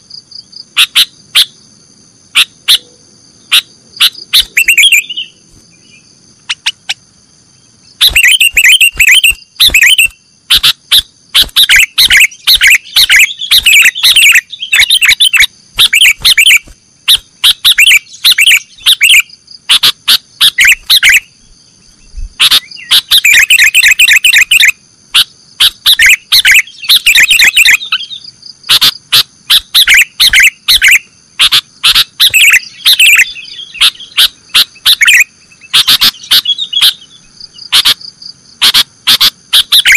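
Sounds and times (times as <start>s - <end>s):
bulbul singing rapid chirps: 3.4s - 7.0s, 7.7s - 39.9s.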